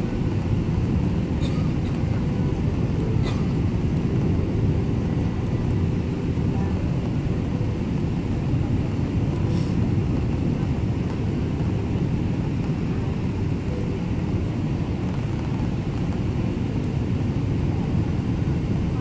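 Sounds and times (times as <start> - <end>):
airplane cabin engine roar: 0.0 - 19.0.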